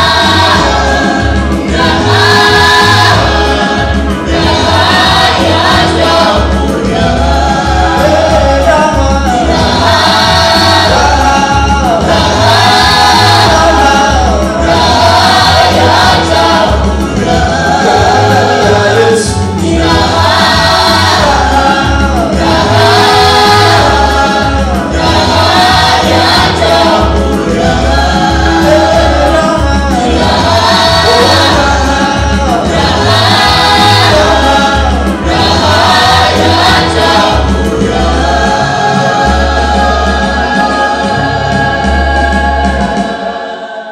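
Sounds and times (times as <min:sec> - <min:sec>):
steady bass beat: 0:00.0 - 0:43.0
choir singing gospel: 0:00.0 - 0:43.9.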